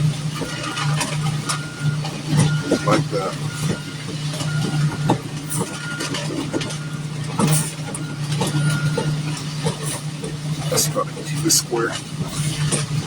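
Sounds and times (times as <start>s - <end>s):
diesel engine running at high throttle: 0.0s - 13.0s.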